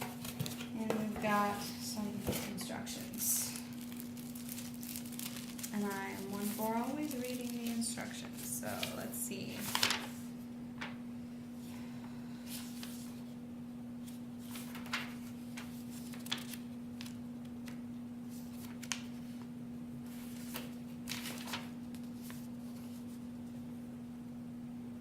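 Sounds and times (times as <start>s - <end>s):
paper crinkling and rustling: 0.0s - 11.0s, 12.4s - 13.4s, 14.0s - 19.5s, 20.1s - 23.6s
steady low hum: 0.0s - 25.0s.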